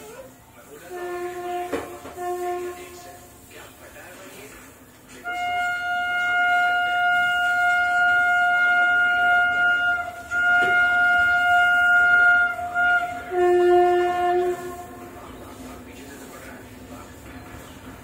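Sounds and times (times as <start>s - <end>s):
train horn blasts: 0.7s - 3.6s, 5.1s - 16.6s.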